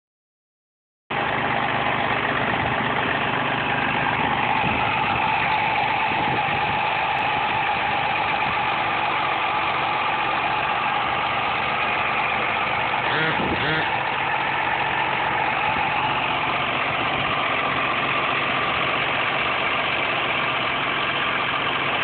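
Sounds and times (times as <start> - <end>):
car engine idling: 1.1 - 22.0
constant whine: 1.1 - 22.0.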